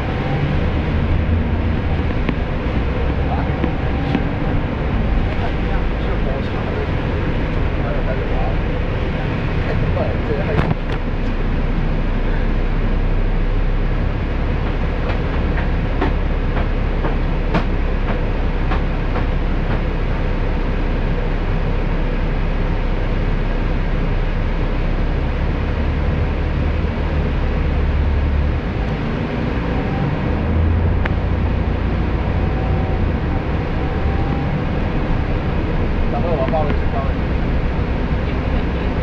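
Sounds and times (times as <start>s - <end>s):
vehicle interior rumble: 0.0s - 39.0s.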